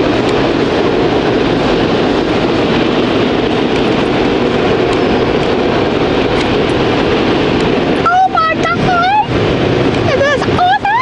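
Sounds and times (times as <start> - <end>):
car wash water spray rushing: 0.0 - 11.0.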